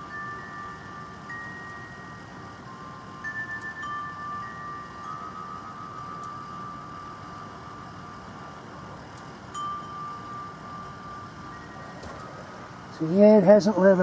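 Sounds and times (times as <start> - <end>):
wind chimes ringing: 0.0 - 13.7
faint background hiss: 0.0 - 14.0.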